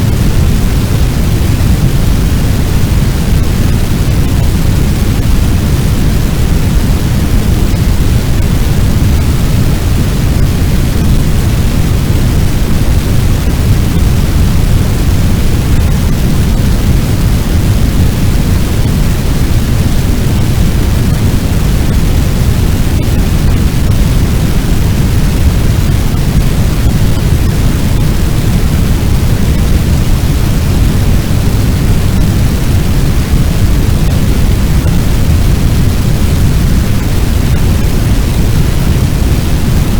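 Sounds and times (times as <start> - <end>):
roaring fire: 0.0 - 39.9.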